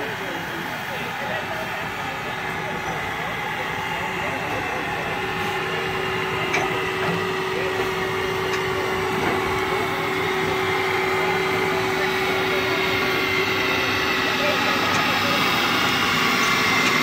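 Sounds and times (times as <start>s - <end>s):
constant hum: 0.0s - 17.0s
steam hissing: 0.0s - 17.0s.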